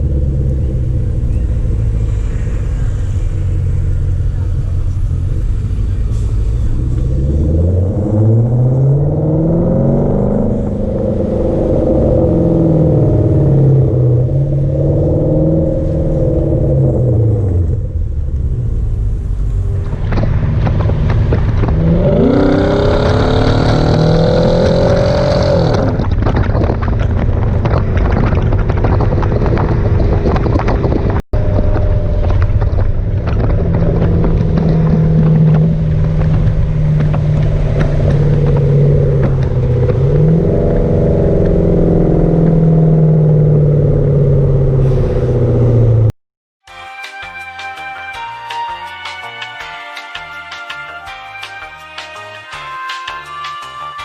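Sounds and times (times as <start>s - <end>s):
car engine revving: 0.0s - 46.2s.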